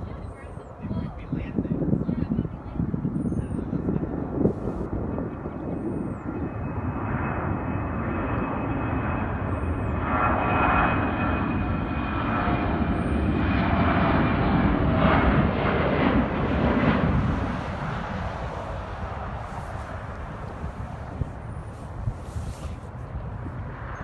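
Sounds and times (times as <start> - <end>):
jet engines at takeoff power: 1.6 - 24.0.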